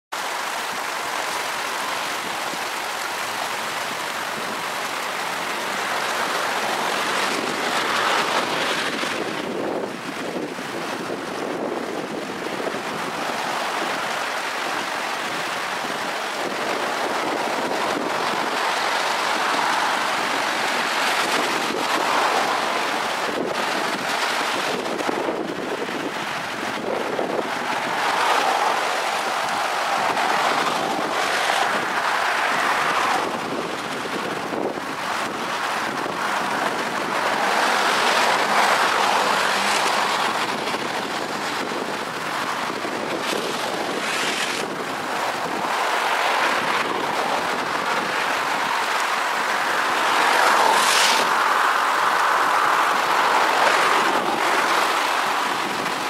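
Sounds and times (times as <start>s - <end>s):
floodwater rushing: 0.1s - 56.0s.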